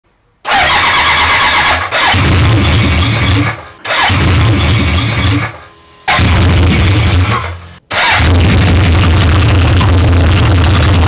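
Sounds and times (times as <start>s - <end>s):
motorcycle engine running: 0.5s - 11.0s
starter motor whine: 0.5s - 11.0s.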